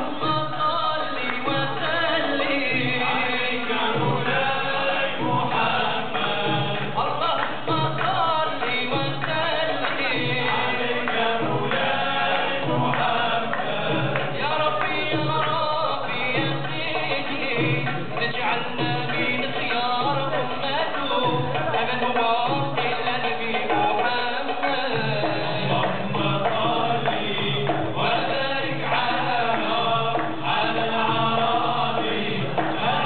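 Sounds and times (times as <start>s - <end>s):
frame drum beat: 0.0s - 33.0s
men singing in unison: 0.0s - 33.0s.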